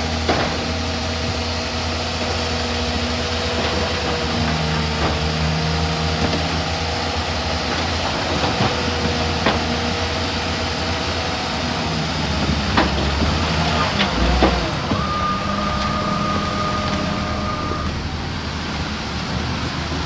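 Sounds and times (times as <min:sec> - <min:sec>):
diesel earthmoving machine running: 0:00.0 - 0:20.0.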